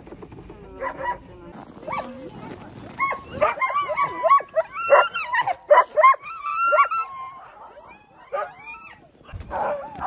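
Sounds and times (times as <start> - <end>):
huskies yelping and howling: 1.8 - 10.0.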